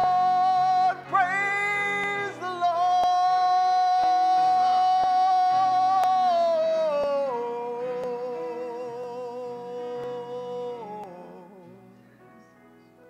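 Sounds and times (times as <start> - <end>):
man singing held notes: 0.0 - 12.0
soft sustained backing chords: 0.0 - 13.0.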